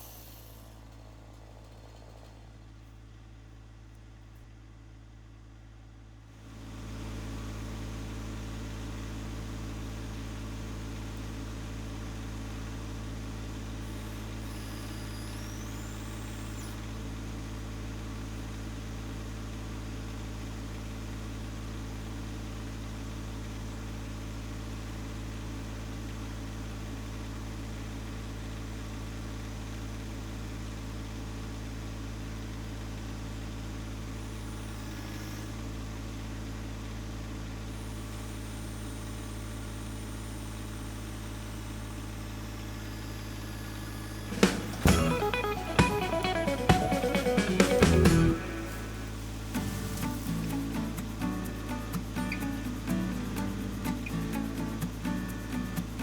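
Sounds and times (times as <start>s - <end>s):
tractor diesel engine running: 0.0s - 28.8s, 29.6s - 56.0s.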